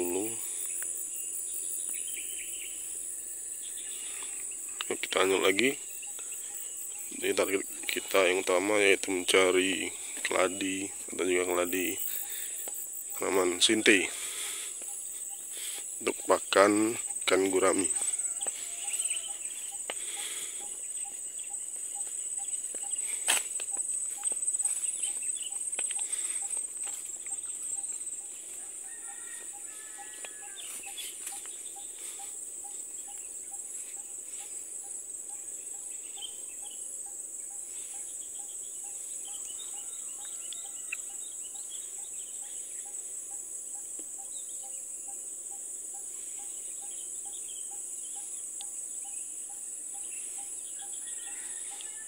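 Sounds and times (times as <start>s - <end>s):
bird calls: 0.0s - 52.0s
high-pitched insect drone: 0.0s - 52.0s.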